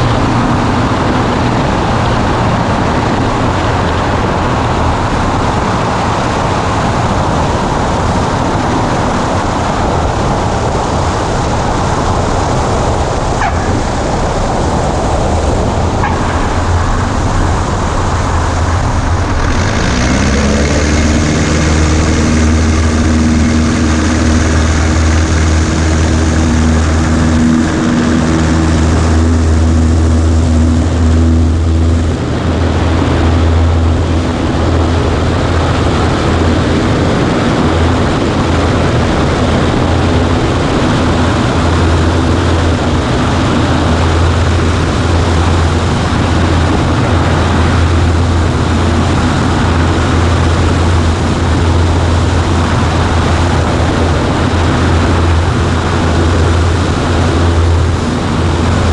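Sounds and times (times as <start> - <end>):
airplane engine and propeller: 0.0 - 58.9
broad rushing noise: 0.0 - 58.9.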